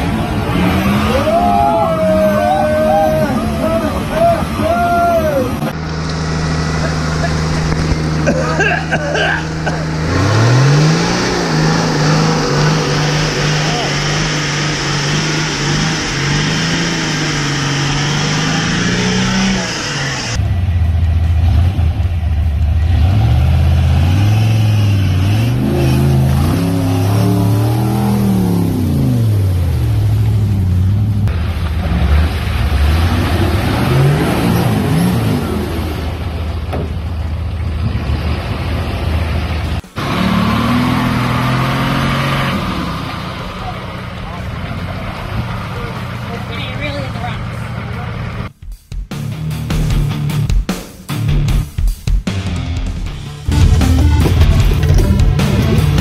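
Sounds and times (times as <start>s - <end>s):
engine revving: 0.0s - 48.5s, 52.4s - 56.0s.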